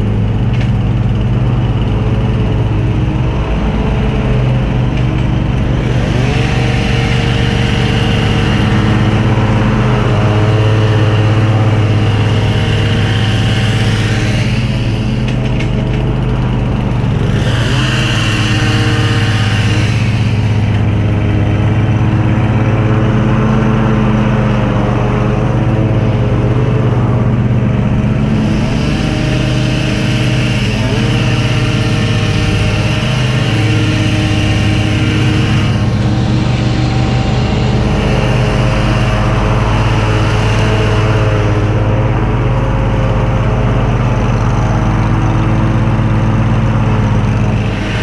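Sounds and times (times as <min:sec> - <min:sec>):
small petrol engine running: 0:00.0 - 0:48.0.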